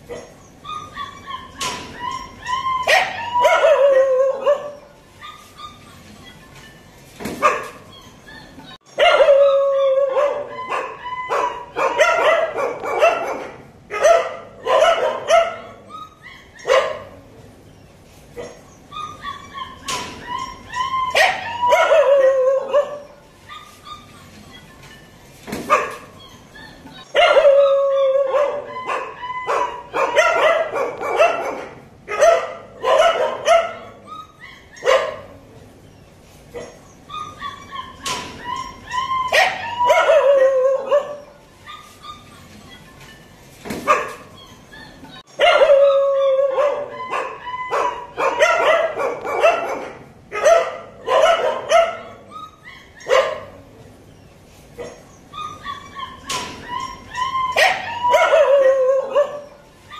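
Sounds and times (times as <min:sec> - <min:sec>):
puppies whining and yelping: 0:00.0 - 0:13.4, 0:14.0 - 0:59.9.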